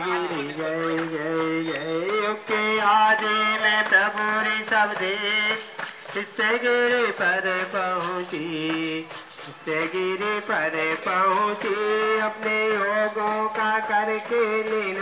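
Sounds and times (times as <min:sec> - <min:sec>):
person singing devotional hymn: 0:00.0 - 0:15.0.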